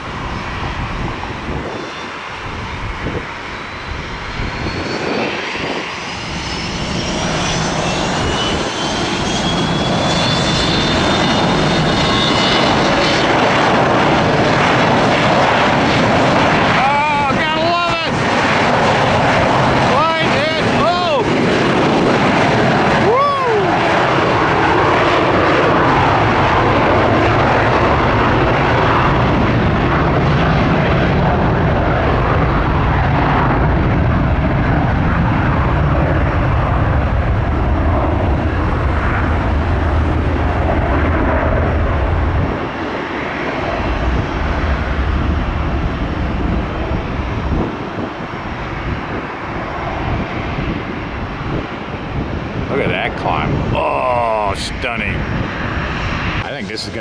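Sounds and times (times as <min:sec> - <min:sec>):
jet engine roar: 0:00.0 - 0:57.0.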